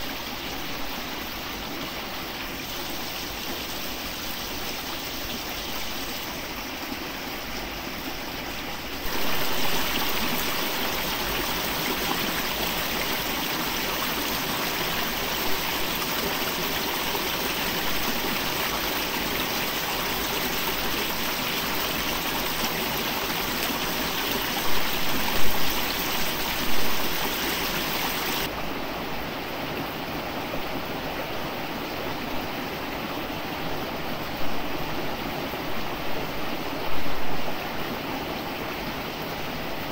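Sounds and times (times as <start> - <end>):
forest stream rushing: 0.0 - 39.9.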